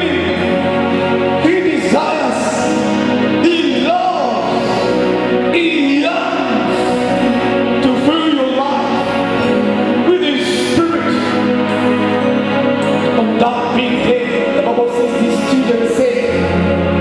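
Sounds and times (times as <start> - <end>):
gospel instrumental backing: 0.0 - 17.0.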